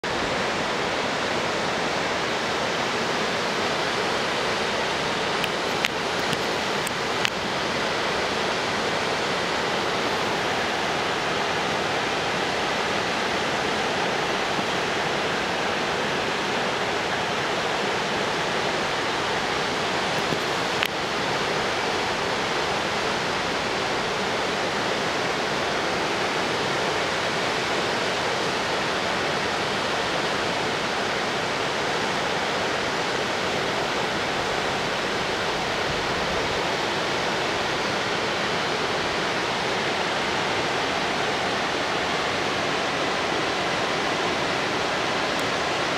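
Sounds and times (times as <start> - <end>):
water rushing down a gorge: 0.0 - 45.9.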